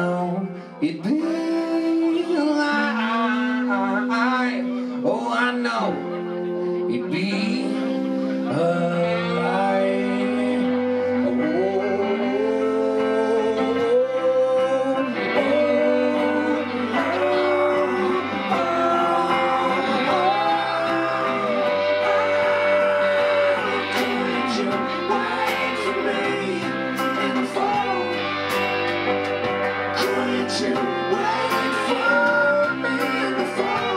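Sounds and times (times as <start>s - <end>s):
bass guitar: 0.0s - 33.9s
live band playing: 0.0s - 33.9s
resonator guitar slide melody: 1.4s - 33.9s.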